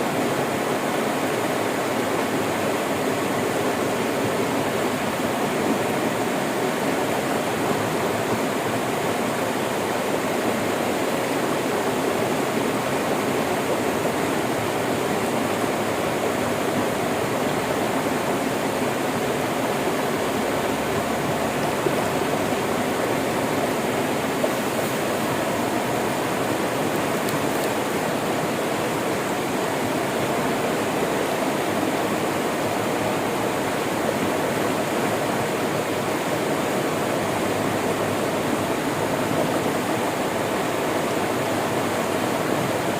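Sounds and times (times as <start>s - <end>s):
river water flowing: 0.0s - 42.9s.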